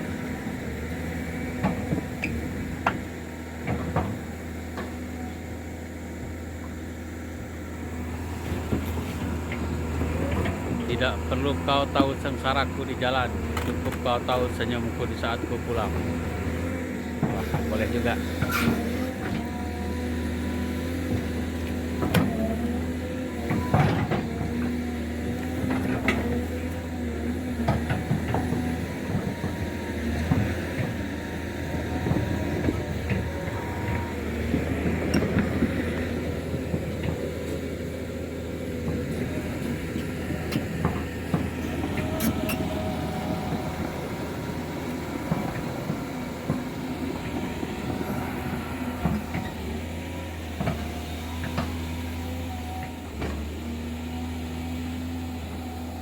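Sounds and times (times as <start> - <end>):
heavy machine engine drone: 0.0 - 56.0.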